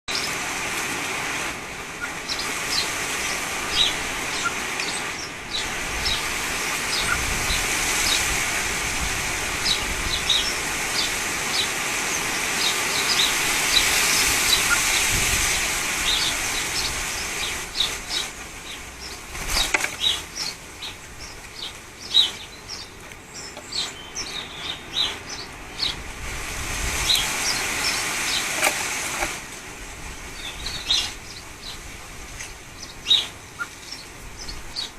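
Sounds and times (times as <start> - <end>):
birds chirping: 0.1 - 0.6, 1.6 - 34.9
wind gusting: 0.1 - 34.9.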